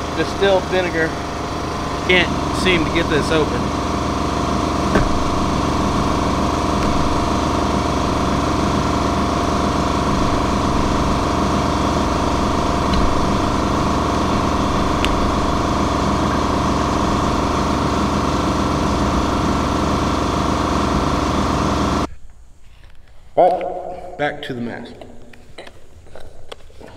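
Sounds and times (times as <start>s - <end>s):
machine motor hum: 0.0s - 22.1s.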